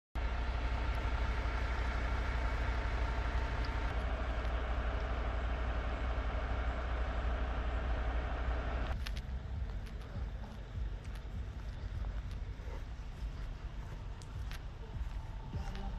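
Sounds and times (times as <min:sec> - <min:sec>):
motor vehicle rumble: 0:00.2 - 0:15.9.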